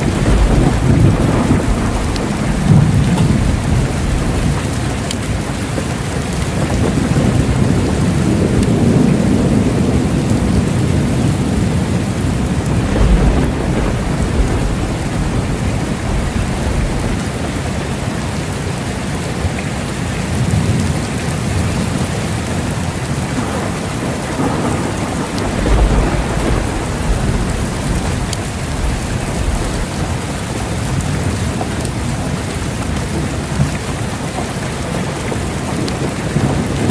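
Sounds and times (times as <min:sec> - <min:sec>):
thunder rolling: 0:00.0 - 0:18.5, 0:20.3 - 0:36.9
heavy rain falling: 0:00.0 - 0:36.9.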